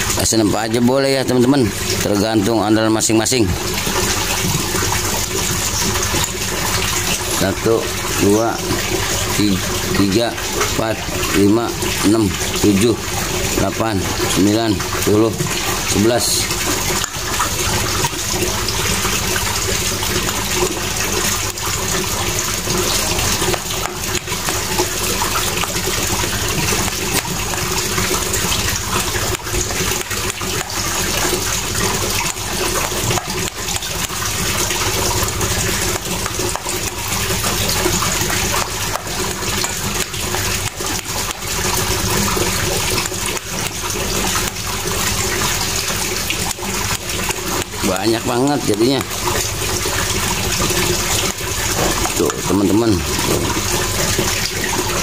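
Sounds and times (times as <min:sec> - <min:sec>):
rushing noise like running water: 0:00.0 - 0:55.0.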